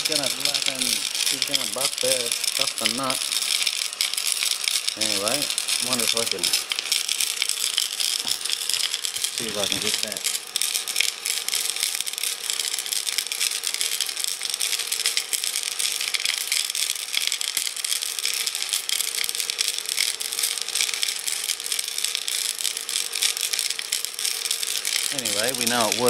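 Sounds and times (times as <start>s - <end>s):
bolts and rocks rattling in jar: 0.0s - 26.0s
cordless drill running: 0.0s - 26.0s
steady hum: 0.0s - 26.0s.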